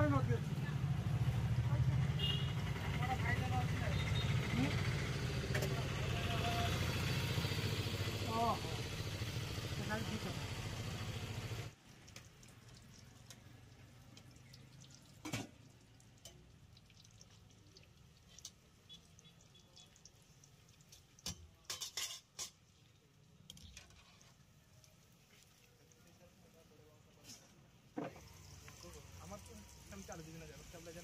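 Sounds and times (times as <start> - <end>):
fritters sizzling in oil: 0.0 - 31.0.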